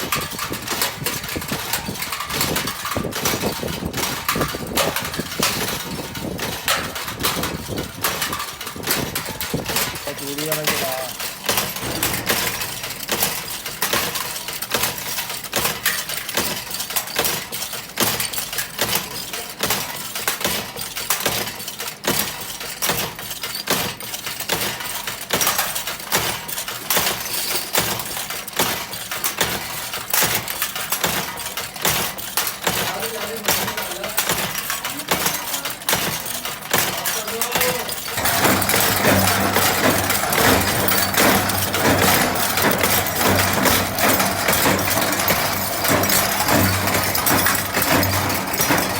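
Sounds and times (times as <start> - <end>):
hard items clattering: 0.0 - 19.7, 23.2 - 48.9.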